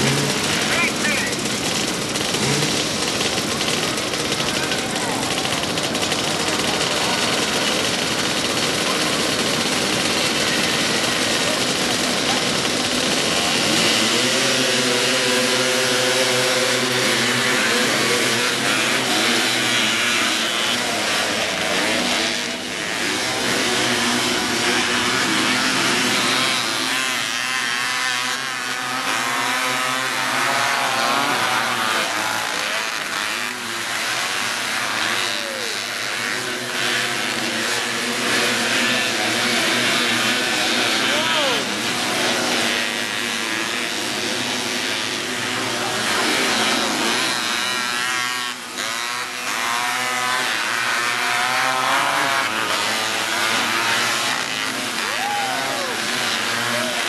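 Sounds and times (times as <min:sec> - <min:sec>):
off-road buggy engines racing: 0:00.0 - 0:57.0.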